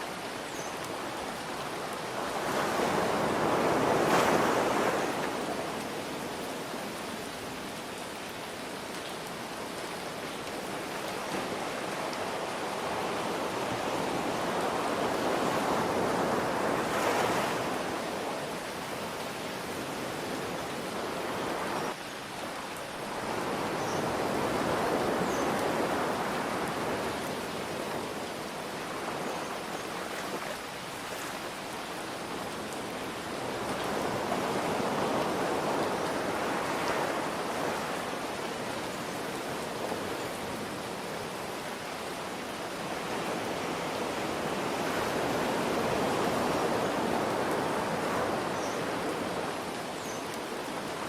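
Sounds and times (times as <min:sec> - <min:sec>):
rain hiss: 0:00.0 - 0:51.0
ocean waves breaking: 0:01.2 - 0:07.8, 0:10.4 - 0:22.0, 0:22.9 - 0:51.0.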